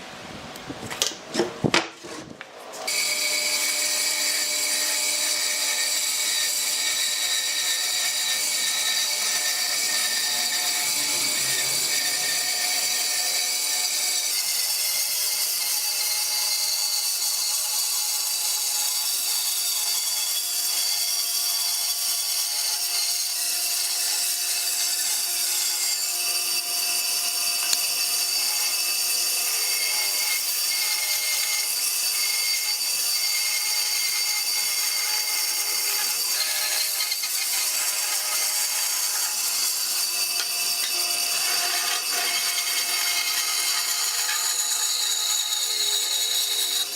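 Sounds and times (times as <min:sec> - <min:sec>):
power tool working wood: 0:02.6 - 0:46.9.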